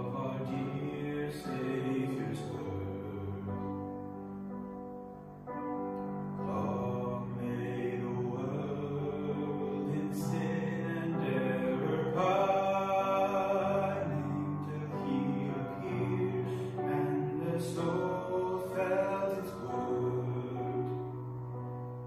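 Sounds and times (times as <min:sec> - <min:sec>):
slow chant-like singing: 0:00.0 - 0:04.0, 0:06.4 - 0:21.1.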